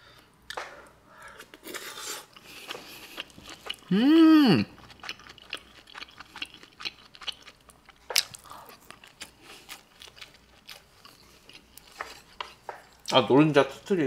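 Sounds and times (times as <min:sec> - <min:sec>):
person chewing food: 0:00.5 - 0:13.2.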